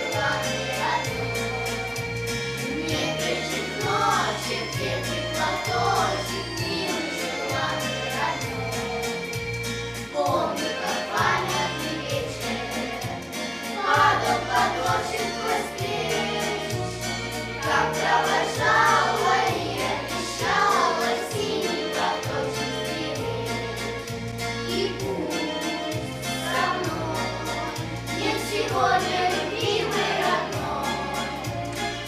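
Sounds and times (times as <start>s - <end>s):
children singing: 0.0s - 9.4s, 10.1s - 32.0s.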